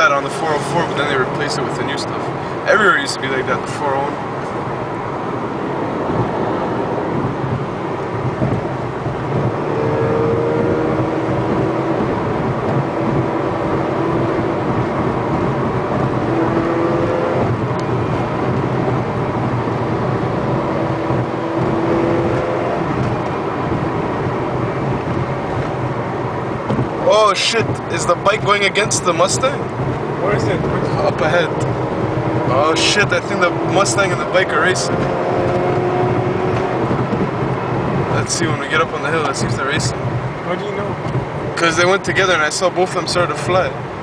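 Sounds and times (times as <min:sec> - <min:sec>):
road noise inside car cabin: 0:00.0 - 0:44.0.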